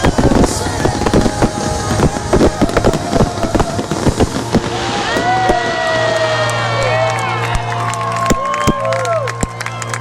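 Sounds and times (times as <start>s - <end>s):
fireworks bangs and crackles: 0.0s - 9.7s.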